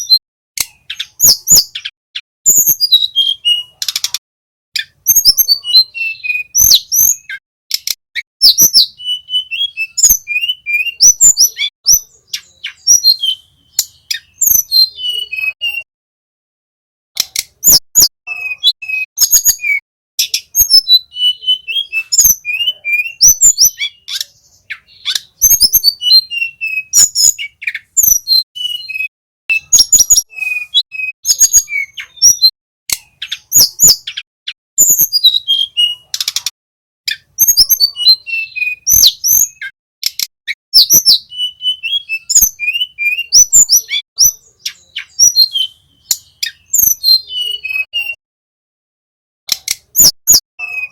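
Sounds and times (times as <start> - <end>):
bird singing fast chirps and whistles: 0.0 - 4.2, 4.8 - 15.9, 17.2 - 48.2, 49.7 - 50.9.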